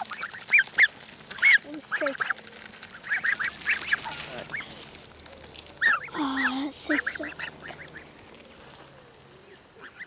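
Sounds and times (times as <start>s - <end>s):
geese peeping calls: 0.0s - 10.0s.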